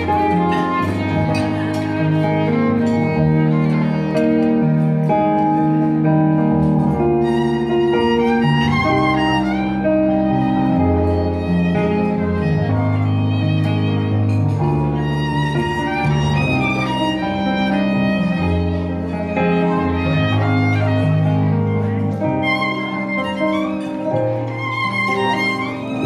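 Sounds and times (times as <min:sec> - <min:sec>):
recorded accompaniment with bass: 0:00.0 - 0:26.0
violin melody: 0:00.0 - 0:26.0.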